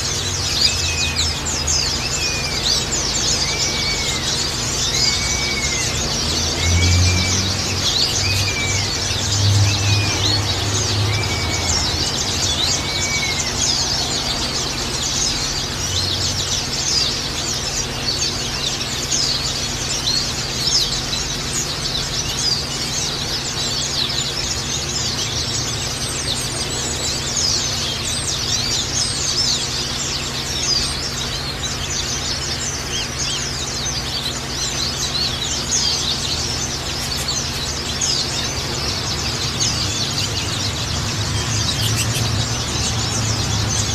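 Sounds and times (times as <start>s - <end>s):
birds twittering: 0.0s - 43.9s.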